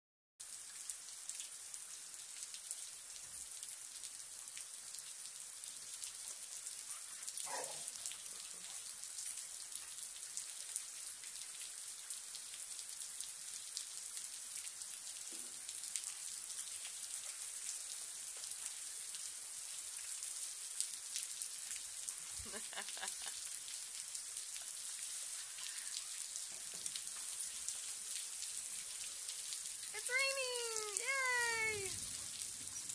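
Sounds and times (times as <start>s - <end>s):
rain falling on paving: 0.4s - 32.9s.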